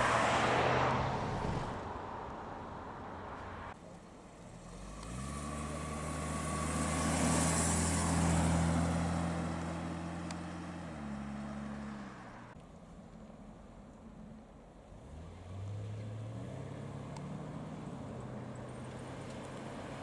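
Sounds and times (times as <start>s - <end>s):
car engine passing: 0.0s - 12.6s, 14.8s - 20.0s.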